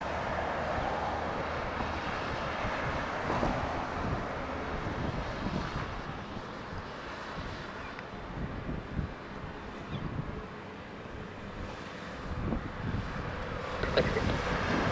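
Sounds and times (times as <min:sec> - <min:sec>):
strong wind buffeting microphone: 0:00.0 - 0:14.9.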